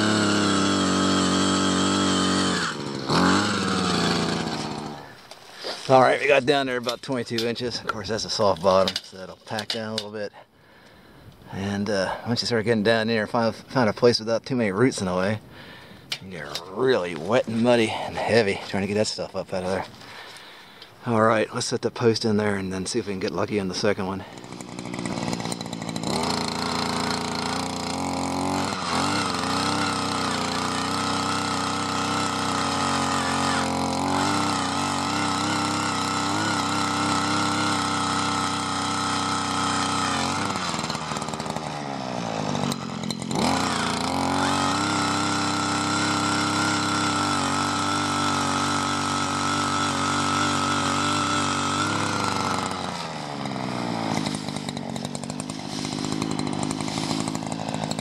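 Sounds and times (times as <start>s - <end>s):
two-stroke auger engine boring: 0.0s - 10.1s, 15.7s - 20.9s, 23.2s - 58.0s.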